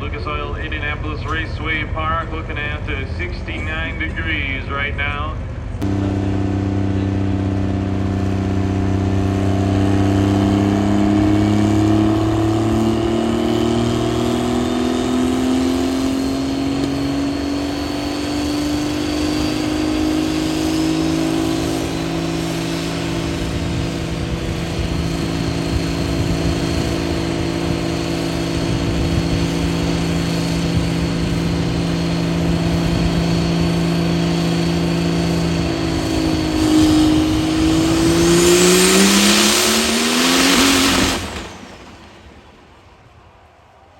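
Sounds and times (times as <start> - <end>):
diesel truck engine under load: 0.0 - 43.8.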